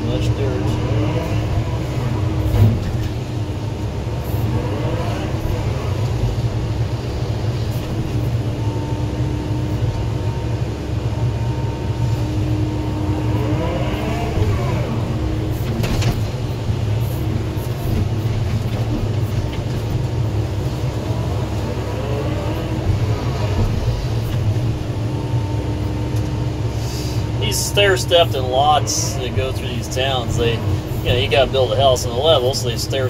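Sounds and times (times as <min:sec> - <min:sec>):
excavator diesel engine: 0:00.0 - 0:33.0
hydraulics whining: 0:00.0 - 0:33.0.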